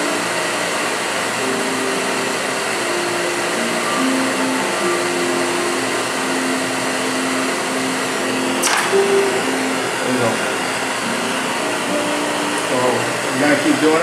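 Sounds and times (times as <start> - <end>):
drill motor humming: 0.0 - 14.0
torch flame hissing: 0.0 - 14.0.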